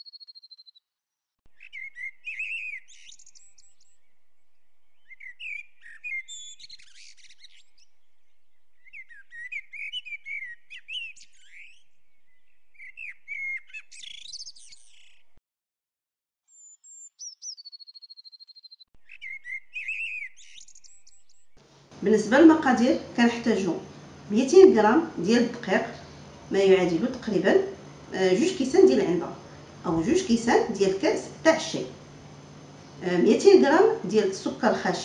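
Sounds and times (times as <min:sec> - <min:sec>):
songbirds chirping: 0:01.5 - 0:15.4, 0:16.5 - 0:35.0.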